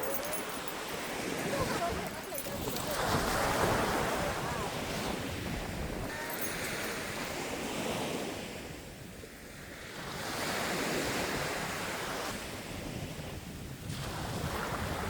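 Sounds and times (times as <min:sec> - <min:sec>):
surf breaking on a beach: 0:00.0 - 0:15.0
wind buffeting microphone: 0:00.0 - 0:15.0.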